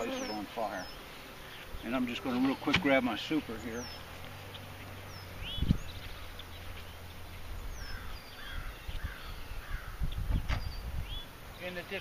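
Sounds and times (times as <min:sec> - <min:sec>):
bird chirps and calls: 0:00.0 - 0:12.0
honey bees humming: 0:00.0 - 0:12.0.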